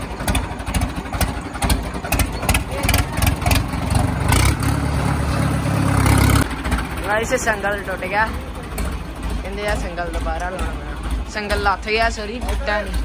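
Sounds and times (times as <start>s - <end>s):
tractor diesel engine clattering: 0.0s - 13.0s.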